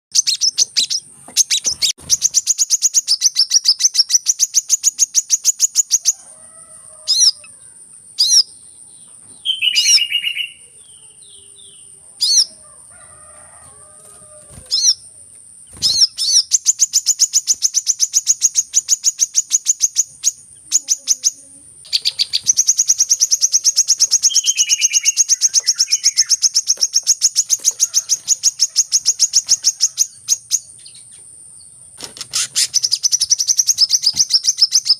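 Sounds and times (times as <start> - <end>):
sunbird chirping: 0.1 - 34.9.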